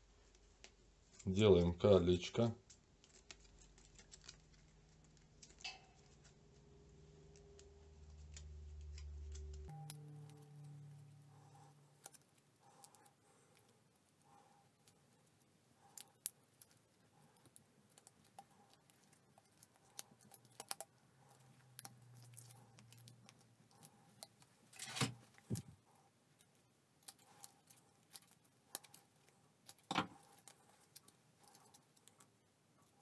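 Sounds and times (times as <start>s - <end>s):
plastic strip clicking and crinkling: 2.6s - 6.4s, 7.3s - 33.0s.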